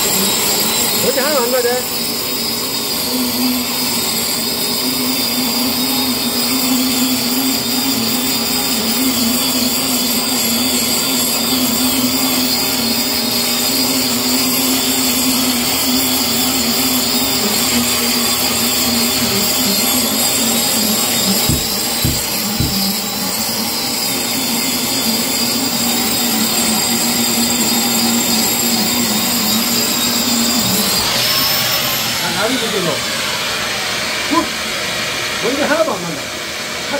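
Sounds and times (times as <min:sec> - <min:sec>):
angle grinder grinding concrete: 0:00.0 - 0:36.9
vacuum running: 0:00.0 - 0:36.9.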